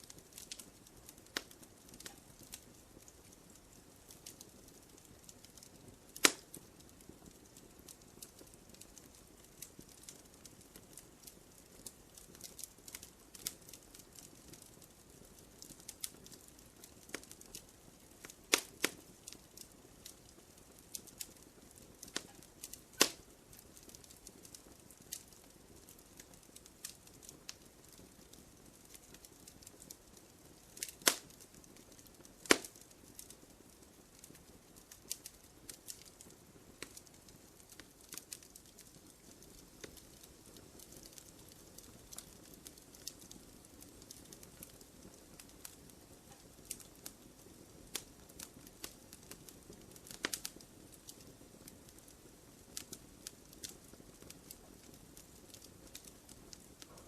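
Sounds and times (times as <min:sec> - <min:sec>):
sharp pops of fire: 0:00.0 - 0:57.0
soft low hiss: 0:00.0 - 0:57.0
wood fire crackling: 0:00.0 - 0:57.0.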